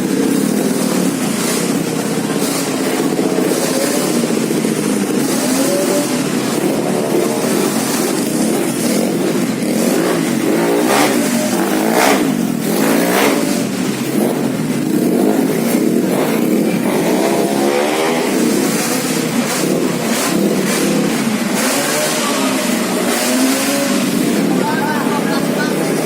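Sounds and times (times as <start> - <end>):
scooter engines revving: 0.0 - 26.0.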